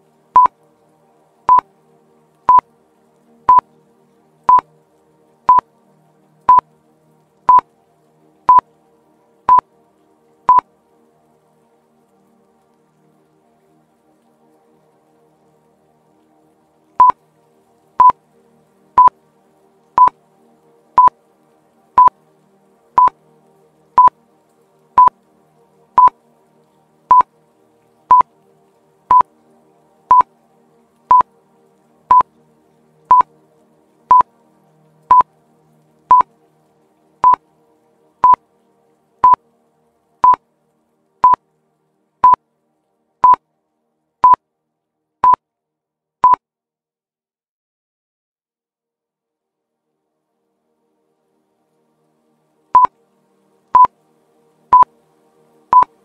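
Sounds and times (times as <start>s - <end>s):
faint background music: 0.0s - 45.3s, 49.5s - 56.0s.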